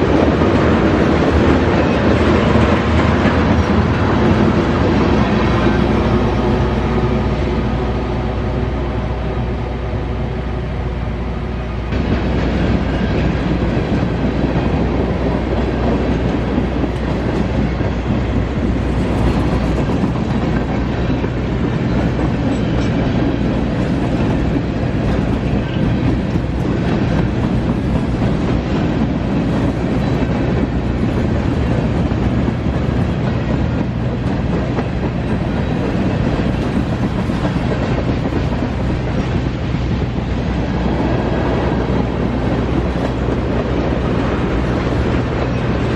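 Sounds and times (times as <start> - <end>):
train wheels clattering on rails: 0.0 - 7.8, 11.8 - 45.9.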